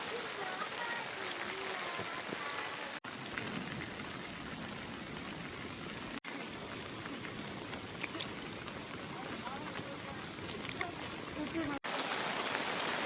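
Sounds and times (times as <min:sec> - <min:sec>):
heavy rain falling: 0:00.0 - 0:13.0
raindrops ticking: 0:00.0 - 0:13.0.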